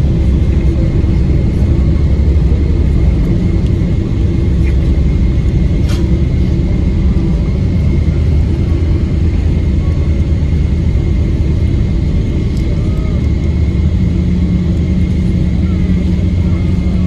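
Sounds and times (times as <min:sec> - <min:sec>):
jet engine and airframe rumble: 0:00.0 - 0:17.0.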